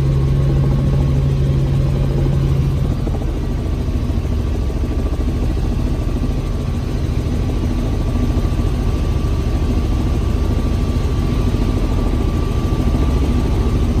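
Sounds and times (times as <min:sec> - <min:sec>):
helicopter engine and rotor drone: 0:00.0 - 0:14.0
thin steady whine: 0:00.0 - 0:14.0.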